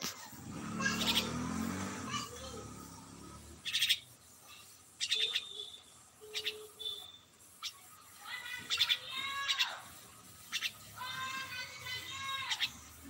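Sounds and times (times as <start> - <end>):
bird chirping: 0.8 - 1.8, 2.5 - 13.0.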